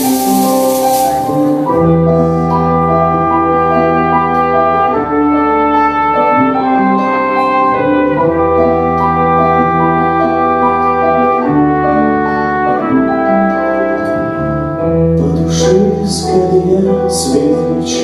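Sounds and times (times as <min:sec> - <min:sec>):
pop instrumental melody: 0:00.0 - 0:18.0
sustained bass notes: 0:00.0 - 0:18.0.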